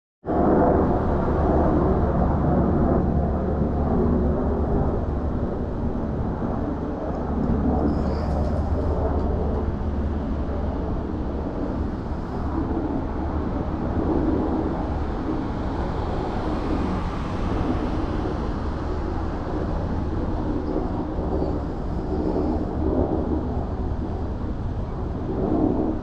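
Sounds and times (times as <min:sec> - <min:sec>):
helicopter rotor drone: 0:00.2 - 0:26.0.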